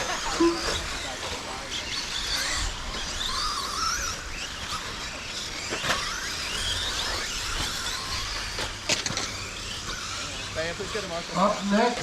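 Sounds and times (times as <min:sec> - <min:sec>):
toy truck electric motors whining: 0:00.0 - 0:12.0.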